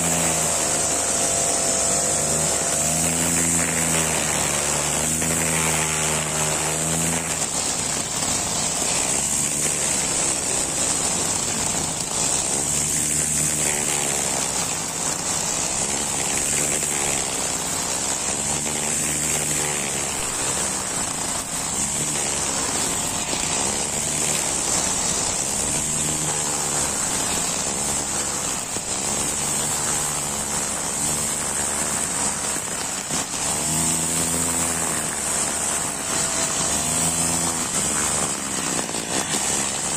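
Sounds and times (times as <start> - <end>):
brush cutter engine: 0.0 - 39.9
steady high hiss: 0.0 - 39.9.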